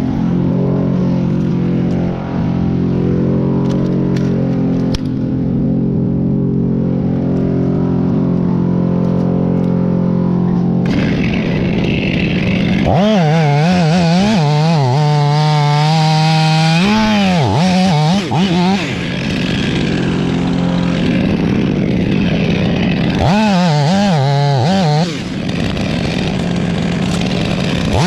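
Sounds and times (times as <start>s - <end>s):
chainsaw cutting wood: 0.0s - 5.8s, 6.4s - 28.0s.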